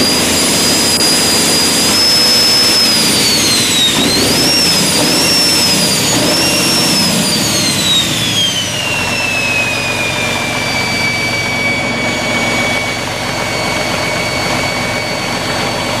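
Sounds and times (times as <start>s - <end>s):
diesel engine running: 0.0s - 16.0s
turbocharger whine: 0.0s - 16.0s.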